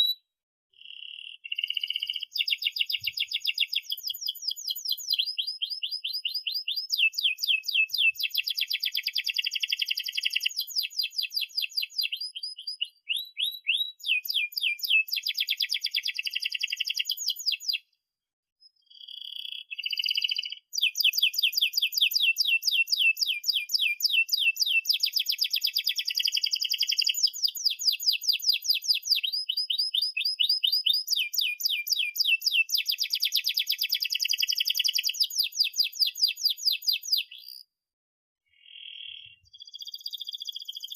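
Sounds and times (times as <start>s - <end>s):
canary singing trills: 0.8s - 17.9s, 18.6s - 37.7s, 38.5s - 40.9s.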